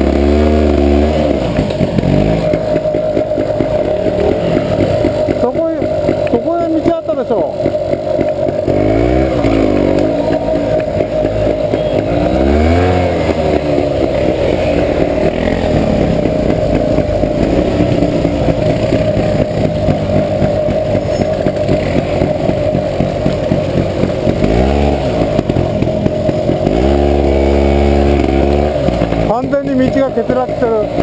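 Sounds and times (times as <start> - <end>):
off-road motorcycle engine: 0.0 - 31.0.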